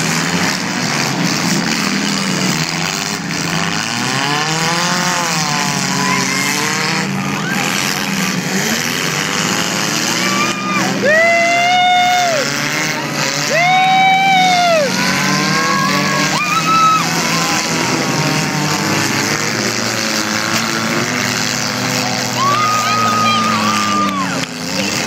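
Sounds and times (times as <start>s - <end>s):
car engines revving: 0.0s - 25.0s
rumble of engines: 0.0s - 25.0s.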